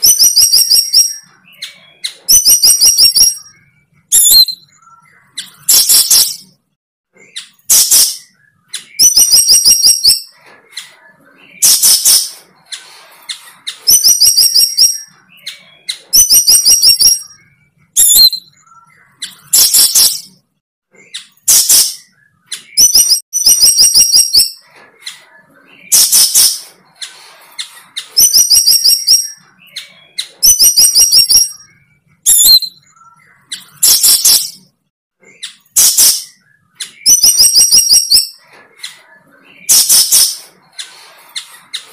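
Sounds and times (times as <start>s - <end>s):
bird singing repeated phrase: 0.0s - 12.7s, 13.5s - 27.0s, 27.8s - 41.0s.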